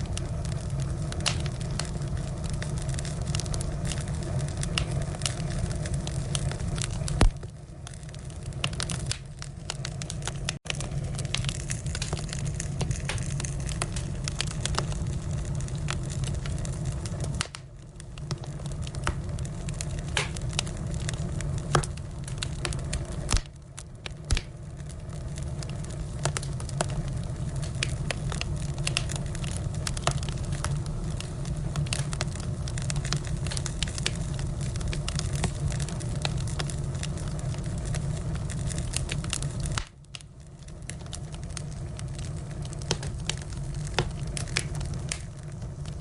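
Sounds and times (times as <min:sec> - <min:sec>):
firewood crackling and popping: 0:00.0 - 0:46.0.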